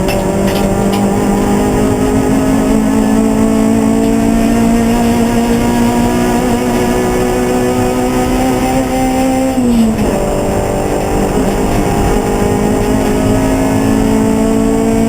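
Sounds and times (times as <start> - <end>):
race car engine running hard: 0.0 - 15.0.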